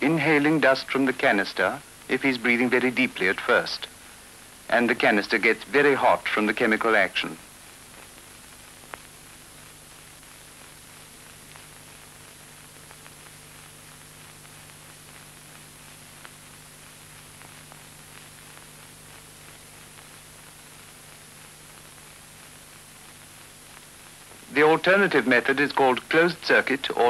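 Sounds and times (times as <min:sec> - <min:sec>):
film soundtrack hiss: 0:00.0 - 0:27.0.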